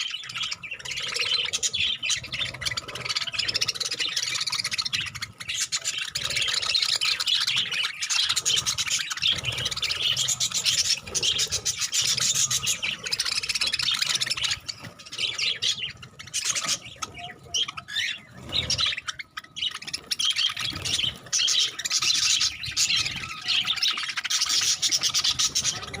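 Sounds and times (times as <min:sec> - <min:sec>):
budgerigars chattering and chirping: 0:00.0 - 0:26.0.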